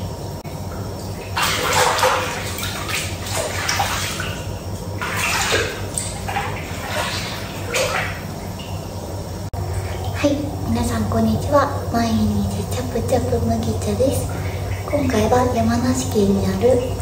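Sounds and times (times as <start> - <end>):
steady low hum: 0.0 - 17.0
bath water sloshing and splashing: 0.4 - 17.0.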